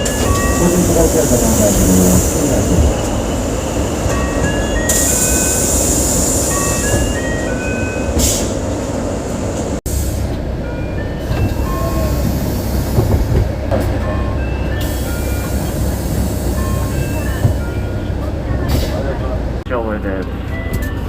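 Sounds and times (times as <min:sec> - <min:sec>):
bus door chime: 0:00.0 - 0:08.6, 0:10.4 - 0:18.9, 0:20.0 - 0:21.0.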